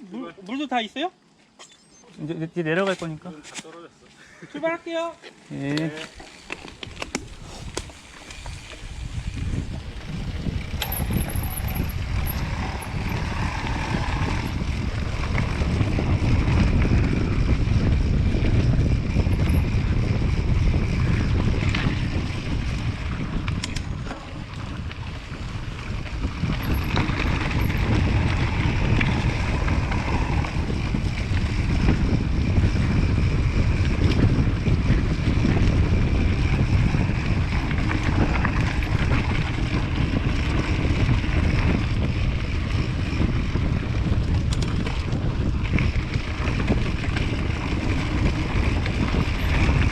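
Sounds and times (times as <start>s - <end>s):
mountain bike rumbling and rattling: 5.0s - 49.9s
wind on microphone: 5.8s - 49.9s.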